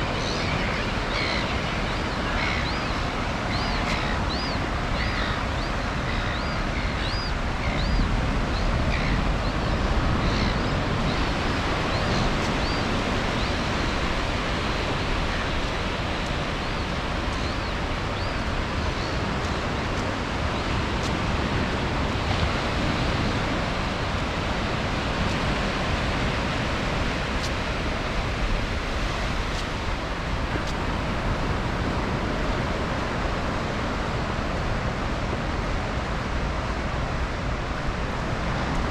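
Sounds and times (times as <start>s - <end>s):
ocean surf breaking: 0.0s - 38.9s.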